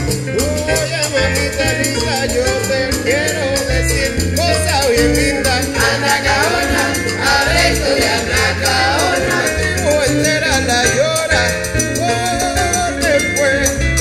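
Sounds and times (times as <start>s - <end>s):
man singing: 0.0s - 14.0s
salsa band playing: 0.0s - 14.0s.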